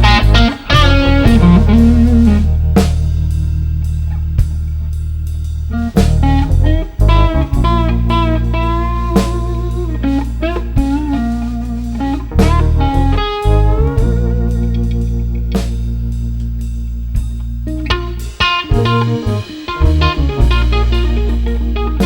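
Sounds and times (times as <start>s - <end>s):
drum kit: 0.0s - 22.0s
electric guitar lead: 0.0s - 22.0s
sustained bass: 0.0s - 22.0s.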